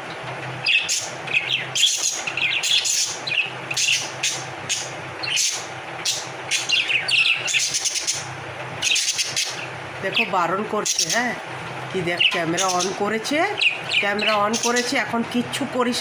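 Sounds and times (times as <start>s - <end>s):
steady low hum: 0.0s - 16.0s
budgerigars chirping and chattering: 0.6s - 11.4s, 12.0s - 15.1s.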